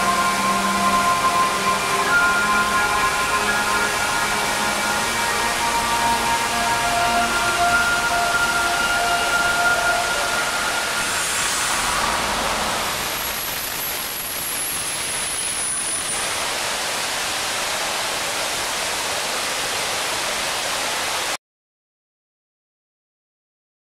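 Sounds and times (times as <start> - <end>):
fountain water rushing and splashing: 0.0 - 21.4.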